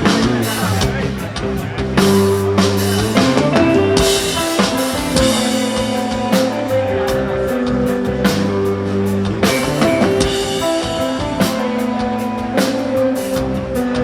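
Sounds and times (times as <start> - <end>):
bass guitar: 0.0 - 14.0
drum kit: 0.0 - 14.0
electric guitar: 0.0 - 14.0.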